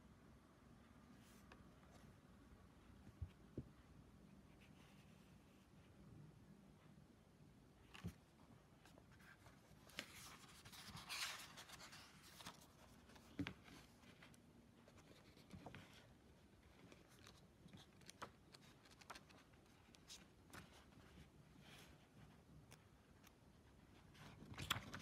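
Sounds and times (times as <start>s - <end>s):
soft scratchy rustle: 3.0s - 6.0s, 7.9s - 25.0s.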